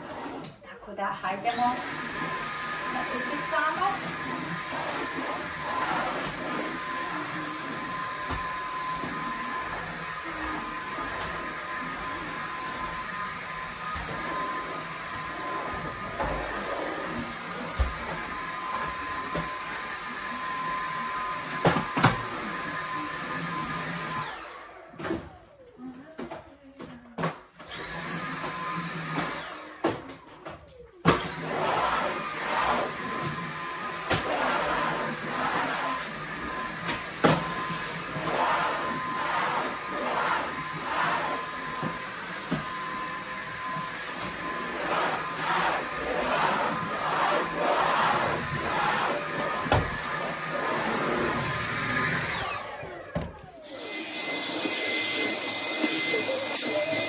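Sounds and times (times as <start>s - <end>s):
stick vacuum cleaner whining: 0.0s - 57.0s
vacuum motor winding down: 1.4s - 25.8s, 27.7s - 57.0s.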